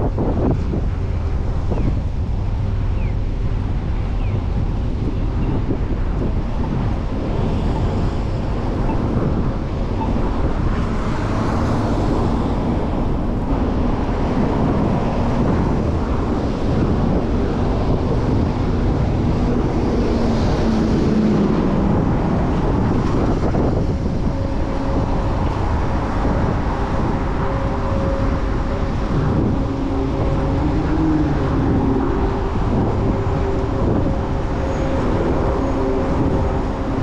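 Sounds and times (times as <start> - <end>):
city traffic: 0.0 - 37.0
wind rushing over microphone: 0.0 - 37.0.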